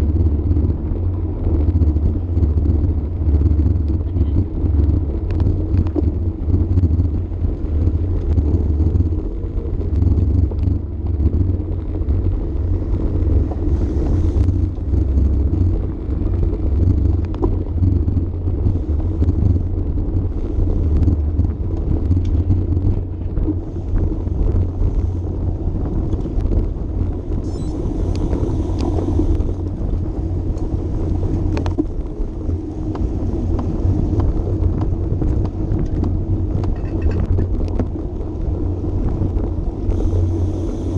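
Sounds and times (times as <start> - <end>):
tyres rolling on path: 0.0 - 40.9
wind buffeting microphone: 0.0 - 40.9.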